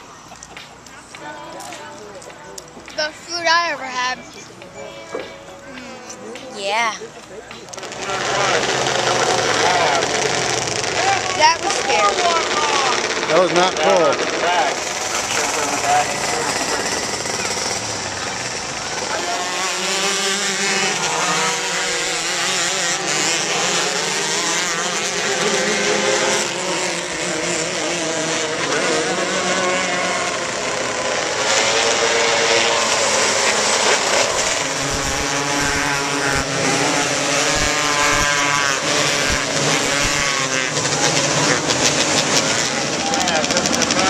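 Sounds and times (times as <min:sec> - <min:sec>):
race car engines revving: 0:00.0 - 0:44.0.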